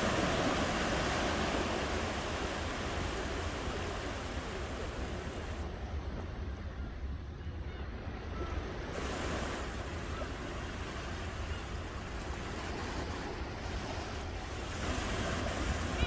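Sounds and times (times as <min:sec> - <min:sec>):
ocean surf washing ashore: 0:00.0 - 0:07.3, 0:08.1 - 0:16.0.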